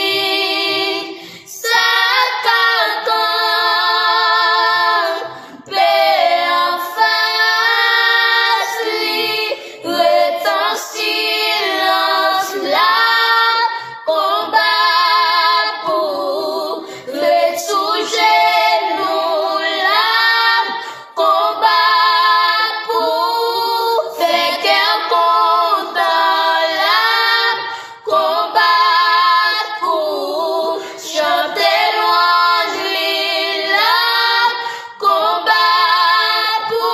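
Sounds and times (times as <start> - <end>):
girls singing a hymn: 0.0 - 36.9.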